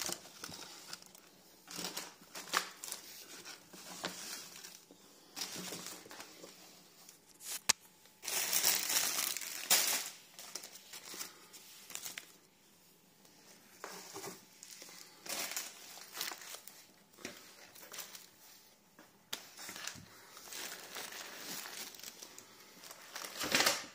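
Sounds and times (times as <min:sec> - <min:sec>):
grocery bags rustling: 0:00.0 - 0:07.6, 0:08.2 - 0:12.5, 0:13.5 - 0:18.7, 0:19.4 - 0:23.9.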